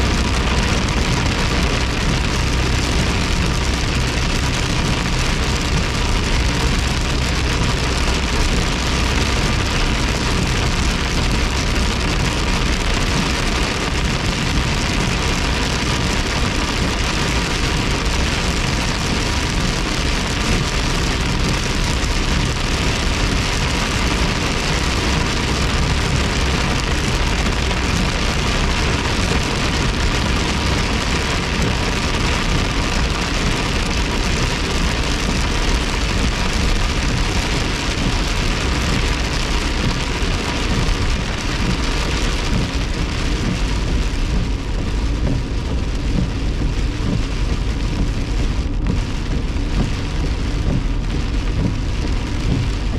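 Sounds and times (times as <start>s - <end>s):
rain on car roof: 0.0s - 52.9s
tyres hissing on wet road: 0.0s - 52.9s.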